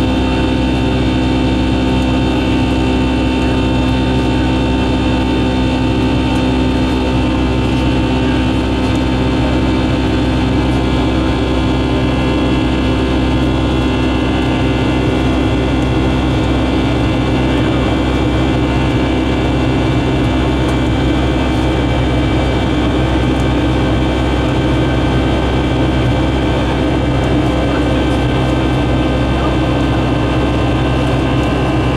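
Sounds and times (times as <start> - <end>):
jet engine drone in cabin: 0.0 - 31.9.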